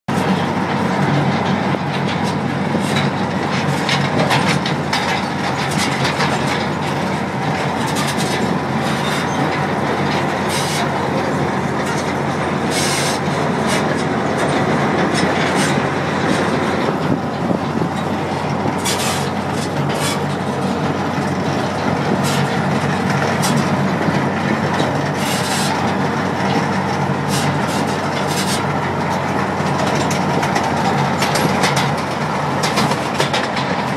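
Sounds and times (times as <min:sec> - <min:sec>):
engine hum: 0:00.0 - 0:33.9
small wheels rattling on rails: 0:00.1 - 0:33.9.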